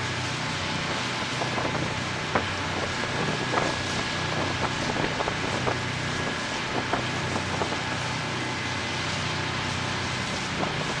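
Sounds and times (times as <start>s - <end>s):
ferry engine drone: 0.0s - 11.0s
rushing spray and wind: 0.0s - 11.0s.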